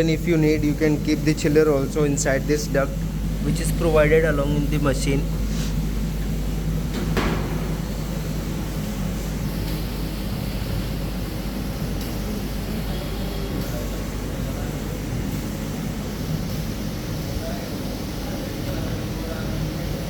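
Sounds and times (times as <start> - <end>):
machinery hum and hiss: 0.0 - 20.0.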